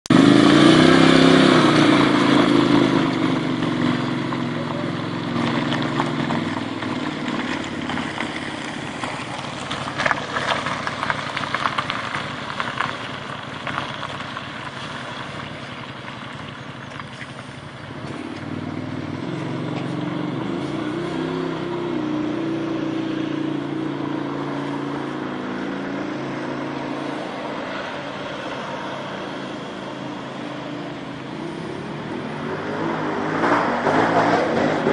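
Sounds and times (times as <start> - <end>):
utility vehicle engine revving: 0.0 - 34.9.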